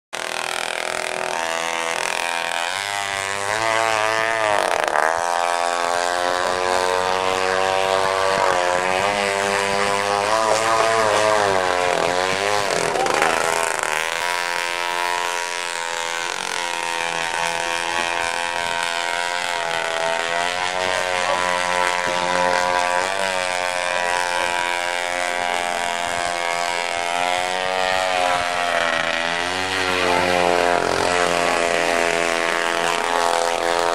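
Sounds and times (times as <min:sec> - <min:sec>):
model boat engine revving: 0:00.2 - 0:33.9.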